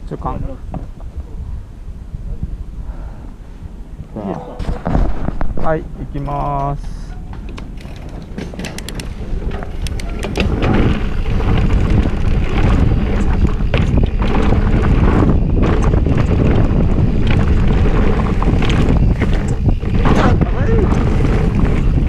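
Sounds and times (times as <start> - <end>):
wind buffeting microphone: 0.0 - 22.0
bike tyre noise: 0.6 - 22.0
bike rattling on rough ground: 4.3 - 22.0.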